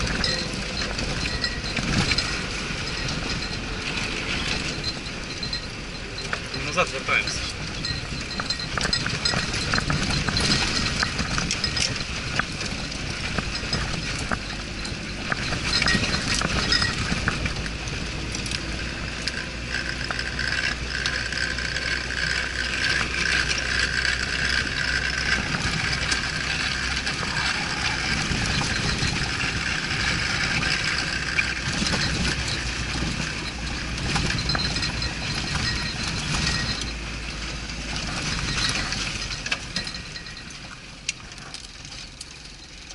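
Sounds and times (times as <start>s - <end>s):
rattling and clinking parts: 0.0s - 42.9s
vehicle engine humming: 0.0s - 42.9s.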